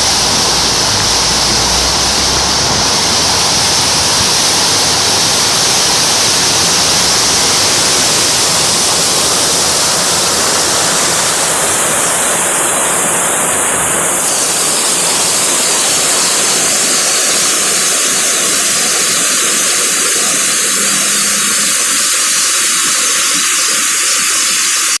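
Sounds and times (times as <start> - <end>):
rushing water roar: 0.0 - 25.0.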